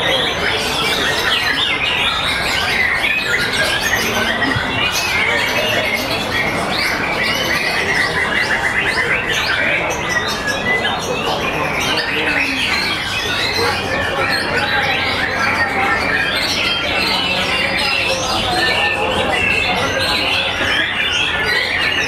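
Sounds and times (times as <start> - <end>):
songbirds singing in chorus: 0.0 - 22.0.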